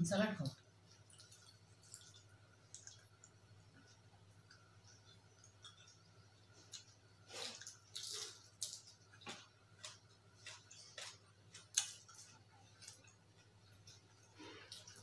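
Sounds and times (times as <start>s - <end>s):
chewing and lip smacks: 0.9s - 15.0s.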